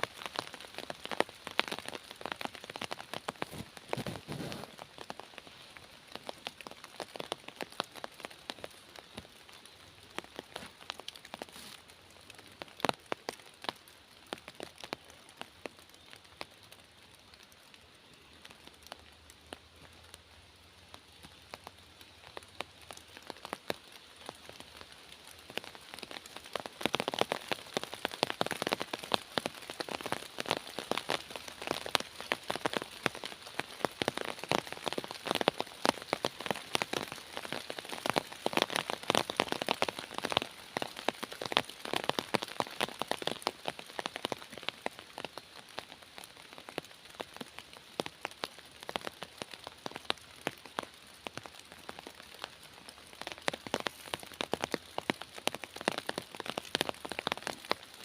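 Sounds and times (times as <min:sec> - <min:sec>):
raindrops pattering on leaves: 0:00.0 - 0:58.0
soft steady rain hiss: 0:00.0 - 0:58.0.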